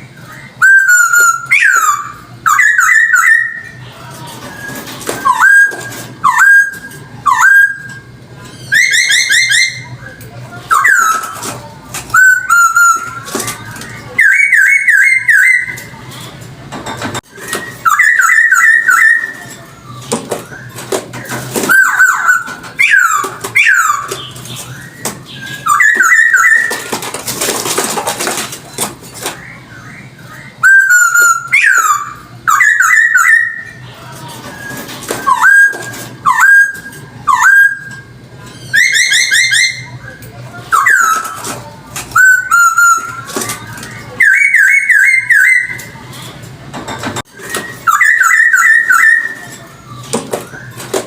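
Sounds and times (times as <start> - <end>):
laughingthrush singing whistled phrases: 0.0 - 3.8, 4.6 - 11.5, 12.1 - 16.0, 17.3 - 20.8, 21.6 - 27.0, 29.4 - 33.9, 34.6 - 41.5, 42.1 - 46.0, 47.5 - 50.8.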